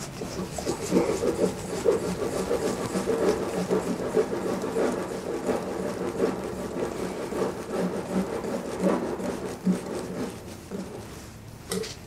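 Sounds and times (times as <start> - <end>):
whisk scraping a glass bowl: 0.0 - 11.2.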